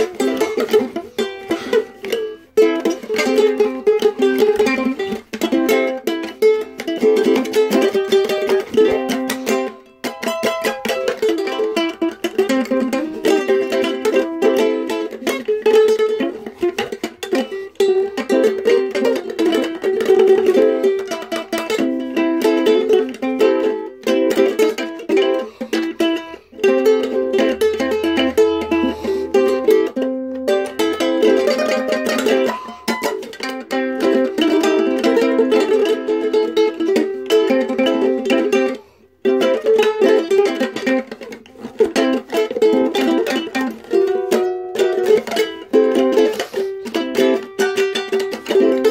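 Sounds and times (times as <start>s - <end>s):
ukulele plucked and strummed: 0.0s - 48.9s.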